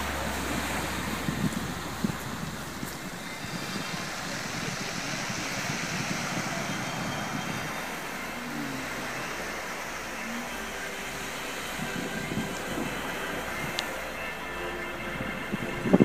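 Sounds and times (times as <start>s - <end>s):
surf on cobble beach: 0.0s - 16.0s.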